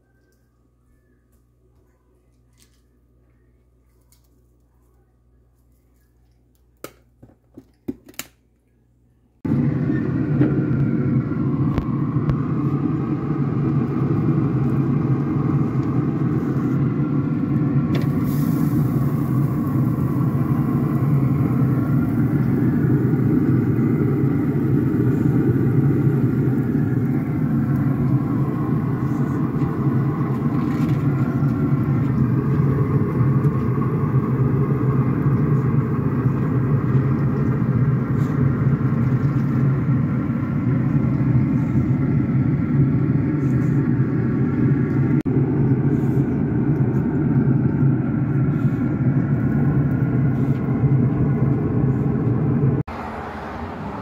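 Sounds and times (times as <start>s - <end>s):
loud mechanical rumble: 9.4s - 54.0s.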